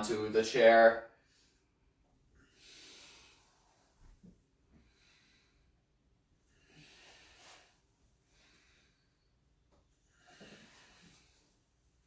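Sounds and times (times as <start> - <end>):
faint slow breathing: 1.2 - 11.7.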